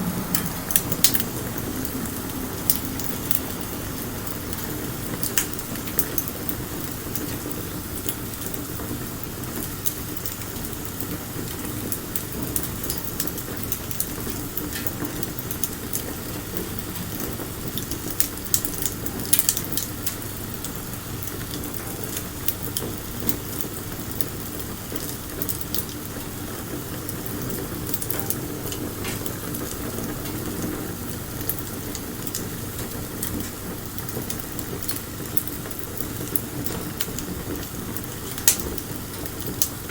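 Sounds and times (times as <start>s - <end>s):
bonfire flame rushing: 0.0s - 39.9s
fire crackles and pops: 0.0s - 39.9s.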